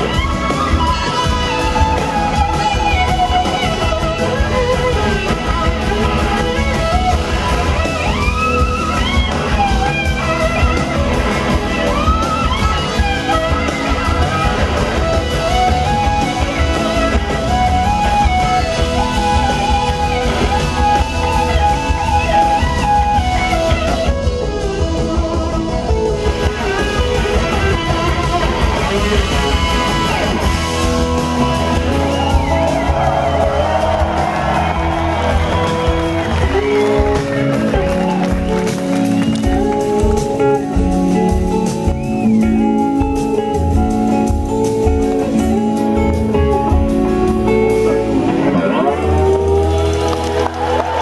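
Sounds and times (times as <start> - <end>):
bass guitar: 0.0 - 51.0
drums: 0.0 - 51.0
slide guitar solo: 0.0 - 51.0.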